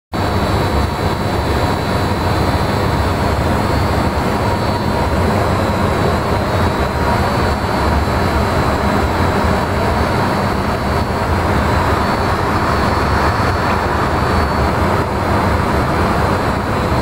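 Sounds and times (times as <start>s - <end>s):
faint high whine: 0.2s - 17.0s
industrial machinery roaring: 0.2s - 17.0s.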